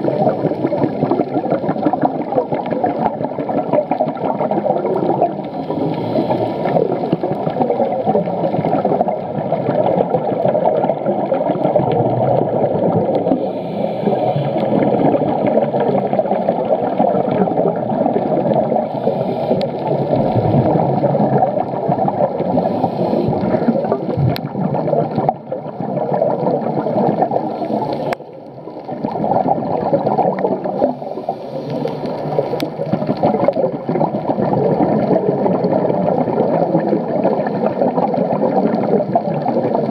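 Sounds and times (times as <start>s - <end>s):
underwater rushing and gurgling: 0.0s - 39.9s.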